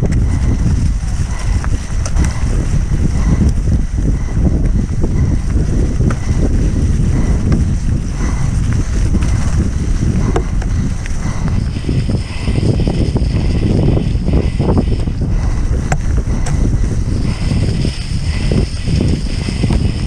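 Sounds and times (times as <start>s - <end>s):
bike knocks and rattles: 0.0s - 20.0s
wind rumble on microphone: 0.0s - 20.0s.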